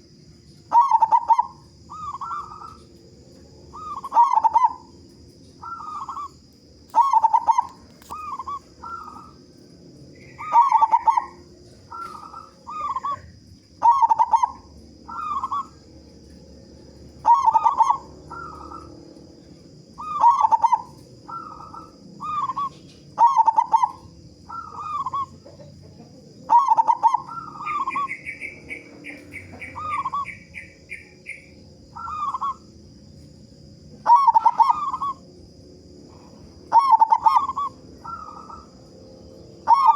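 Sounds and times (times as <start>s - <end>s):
dove cooing: 0.7s - 9.5s, 10.1s - 16.4s, 17.1s - 32.8s, 33.7s - 39.9s.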